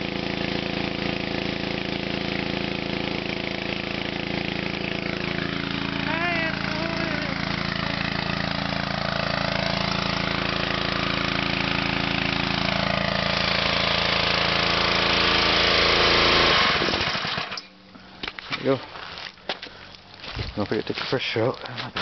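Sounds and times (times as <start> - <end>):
pressure washer engine running: 0.0 - 18.2.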